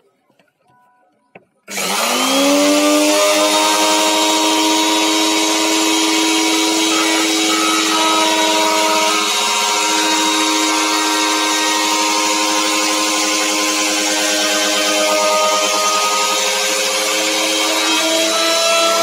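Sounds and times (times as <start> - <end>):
electric router whining: 1.7 - 19.0.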